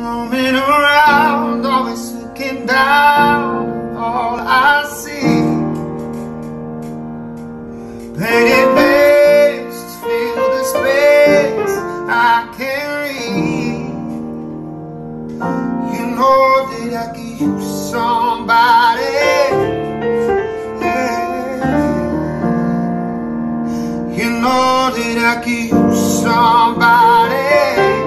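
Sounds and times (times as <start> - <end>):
piano accompaniment: 0.0 - 28.0.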